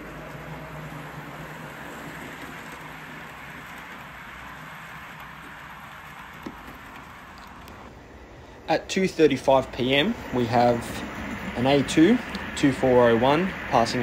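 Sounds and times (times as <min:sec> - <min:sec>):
model train wheels rumbling on rail: 0:00.0 - 0:14.0.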